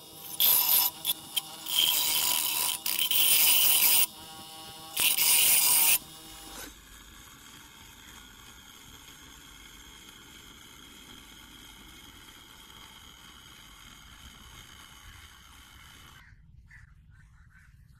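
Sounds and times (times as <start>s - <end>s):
grinder motor humming: 0.0s - 16.2s
grinding wheel on steel: 0.0s - 16.2s.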